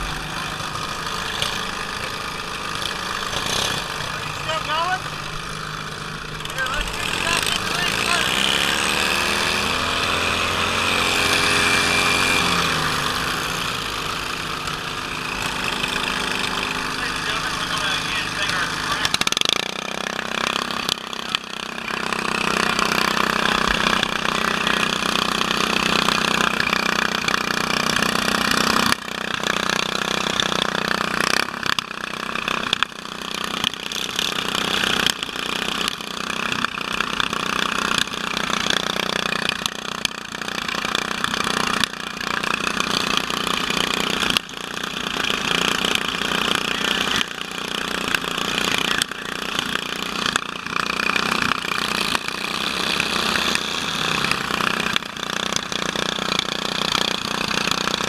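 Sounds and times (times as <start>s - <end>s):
riding lawn mower engines: 0.0s - 58.0s.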